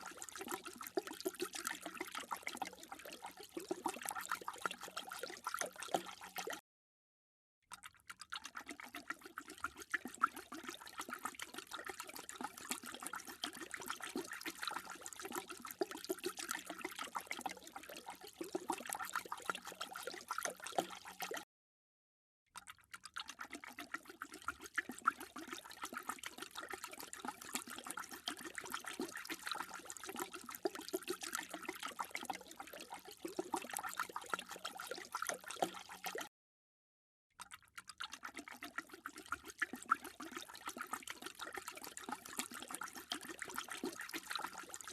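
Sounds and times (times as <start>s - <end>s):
dog lapping water: 0.0s - 6.6s, 7.7s - 21.4s, 22.6s - 36.3s, 37.4s - 44.9s.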